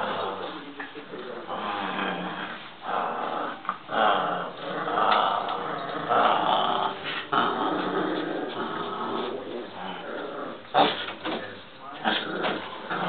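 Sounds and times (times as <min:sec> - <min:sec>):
small dog growling: 0:00.0 - 0:11.3, 0:12.0 - 0:13.0.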